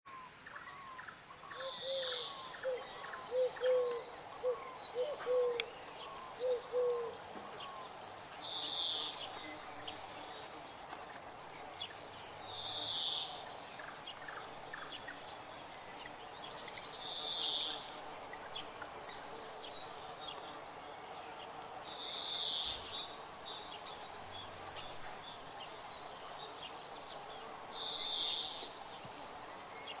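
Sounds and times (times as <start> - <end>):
birds chirping: 0.1 - 30.0.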